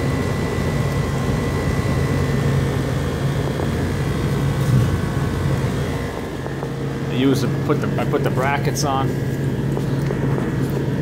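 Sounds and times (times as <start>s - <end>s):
compressor humming: 0.0s - 11.0s
fan air rushing: 0.0s - 11.0s.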